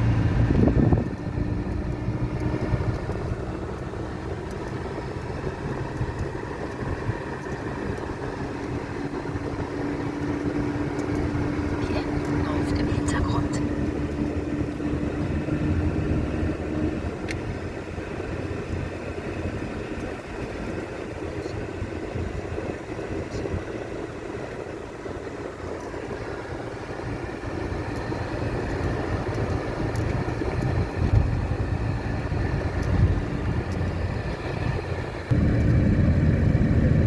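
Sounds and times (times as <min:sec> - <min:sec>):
motor vehicle rumble: 0:00.0 - 0:37.0.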